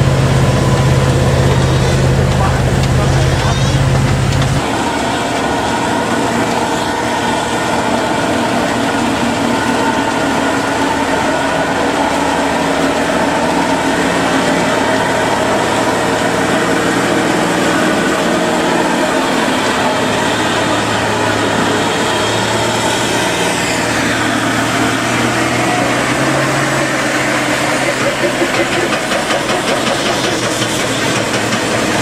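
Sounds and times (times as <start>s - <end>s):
heavy truck engine running: 0.0s - 32.0s.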